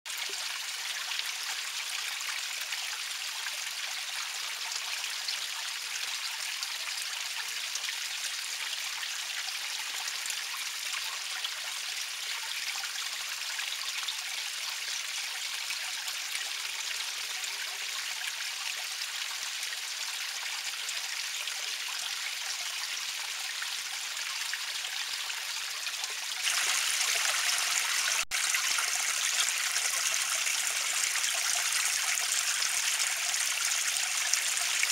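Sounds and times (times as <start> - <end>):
water trickling over stones: 0.1 - 34.9.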